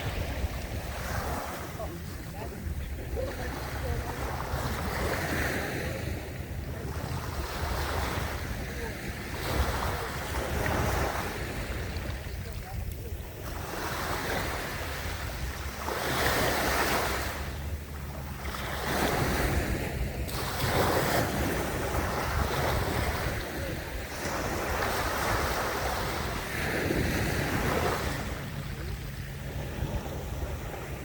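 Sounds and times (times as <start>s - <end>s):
sea waves washing ashore: 0.0s - 31.0s
wind on microphone: 0.0s - 31.0s.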